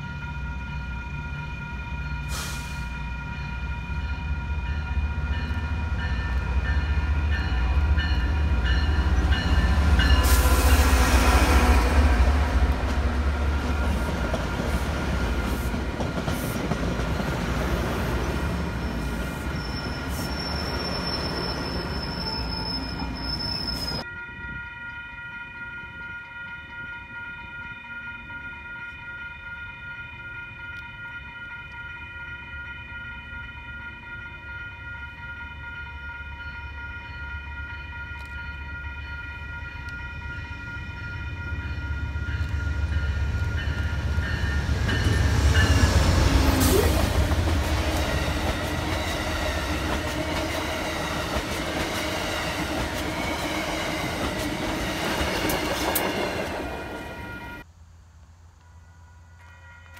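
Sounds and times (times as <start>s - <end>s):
train passing: 0.0s - 59.9s.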